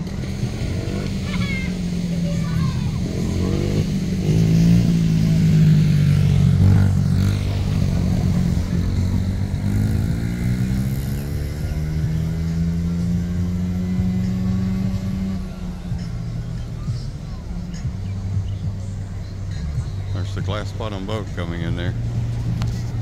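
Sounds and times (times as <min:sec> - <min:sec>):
motor engine running: 0:00.0 - 0:23.0.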